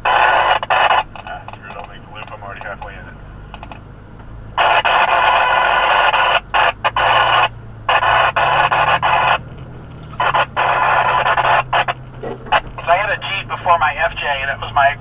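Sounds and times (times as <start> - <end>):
two-way radio static: 0.0 - 3.9, 4.6 - 15.0
vehicle engine running low: 0.0 - 15.0.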